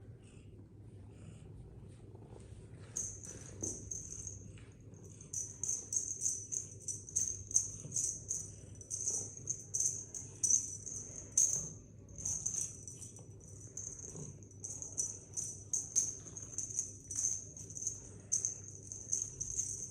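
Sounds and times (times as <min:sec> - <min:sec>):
jingle bells shaken: 0:03.0 - 0:19.9.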